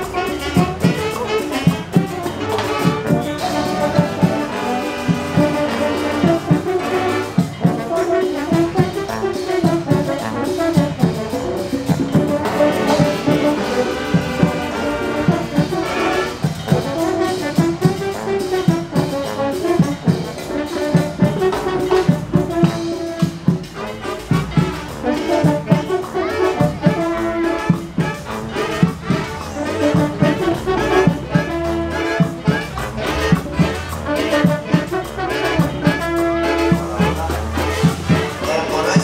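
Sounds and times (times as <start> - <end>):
brass band playing: 0.0 - 39.0
steady drumbeat: 0.0 - 39.0.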